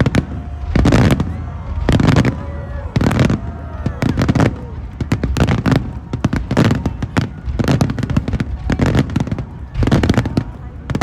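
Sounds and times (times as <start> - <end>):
fireworks bangs: 0.0 - 11.0
low rolling echo: 0.0 - 11.0.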